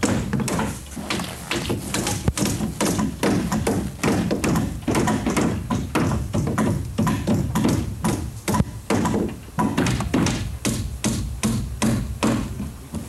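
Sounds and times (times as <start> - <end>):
hammers driving nails into wood: 0.0 - 12.7.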